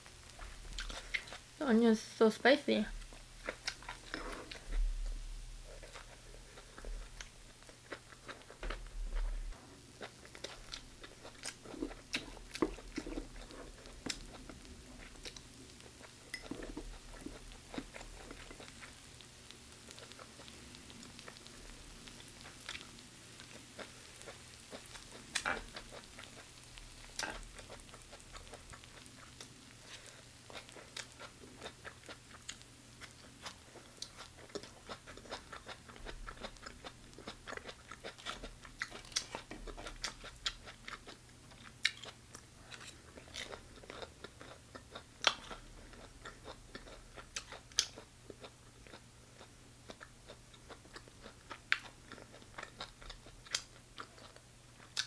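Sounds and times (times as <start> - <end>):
close chewing and crunching: 0.0 - 1.5, 3.0 - 55.0
faint low hum: 0.0 - 55.0.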